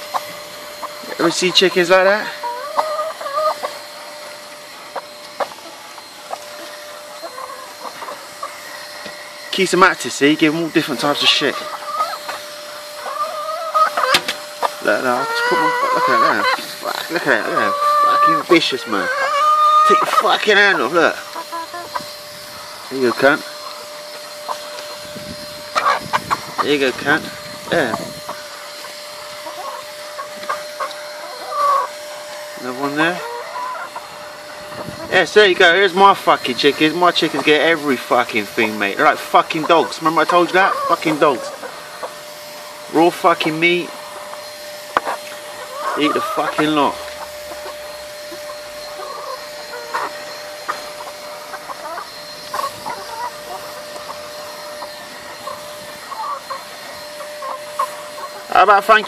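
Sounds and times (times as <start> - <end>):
hens clucking and calling: 0.0 - 59.0
steady background hum: 0.0 - 59.0.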